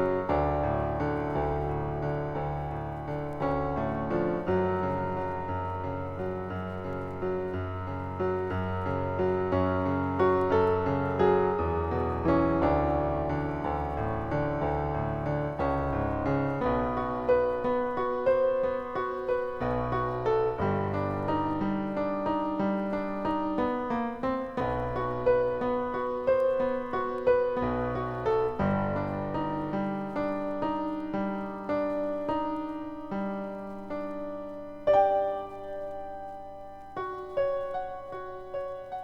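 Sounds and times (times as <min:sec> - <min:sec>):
low piano bass notes: 0:00.0 - 0:39.0
piano melody: 0:00.0 - 0:39.0.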